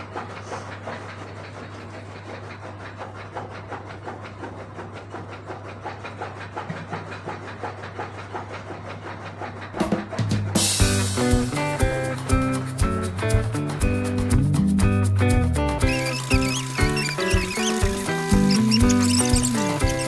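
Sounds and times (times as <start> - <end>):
machine humming and clattering: 0.0 - 20.0.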